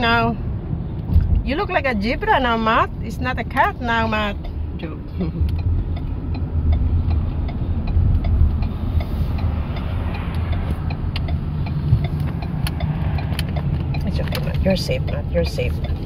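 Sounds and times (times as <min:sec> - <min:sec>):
car interior engine and road rumble: 0:00.0 - 0:16.0.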